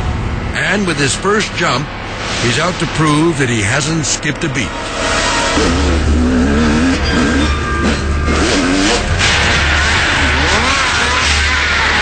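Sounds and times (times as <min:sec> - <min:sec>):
snowmobile engines revving: 0:00.6 - 0:12.0.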